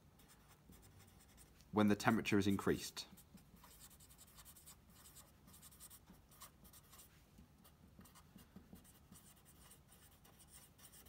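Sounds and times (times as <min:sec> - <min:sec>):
marker writing on whiteboard: 0:00.2 - 0:11.0.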